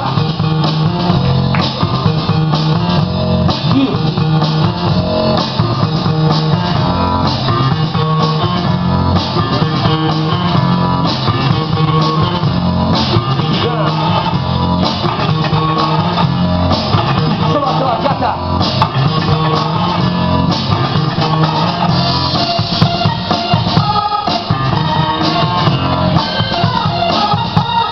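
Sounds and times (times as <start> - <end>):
loud rock music: 0.0 - 27.9.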